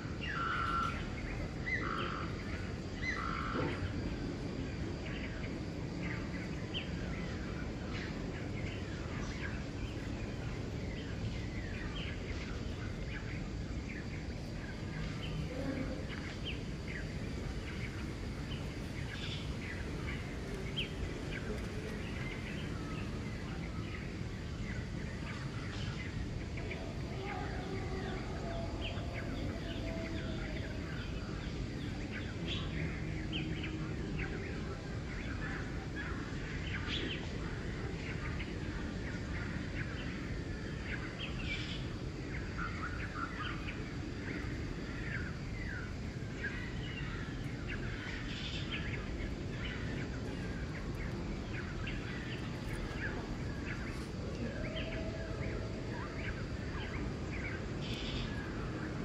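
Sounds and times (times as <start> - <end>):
outdoor background hiss: 0.0 - 59.0
small birds chirping: 0.0 - 59.0
low rising and falling bird calls: 0.1 - 59.0.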